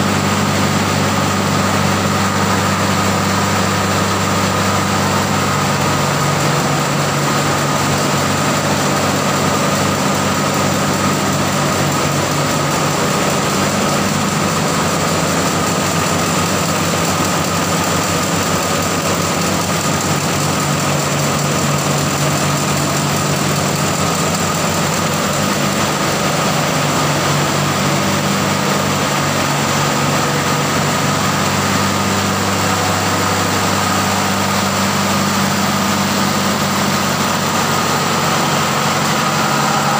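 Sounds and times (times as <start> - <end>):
ship diesel engine hum: 0.0 - 39.9
steady engine whine: 0.0 - 39.9.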